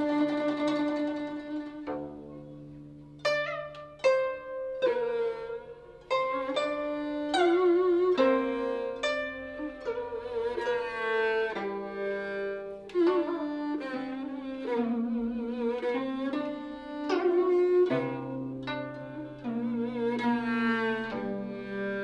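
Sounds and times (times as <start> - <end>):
bowed fiddle with vibrato: 0.0 - 22.0
plucked zither notes: 0.0 - 22.0.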